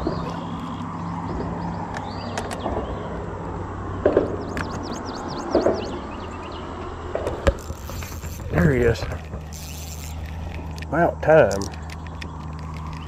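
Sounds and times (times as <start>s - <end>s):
boat low hum: 0.0s - 13.0s.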